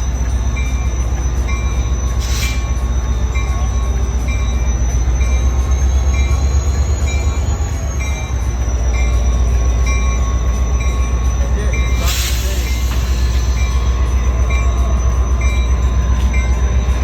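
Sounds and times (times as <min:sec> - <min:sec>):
train car low rumble: 0:00.0 - 0:17.0.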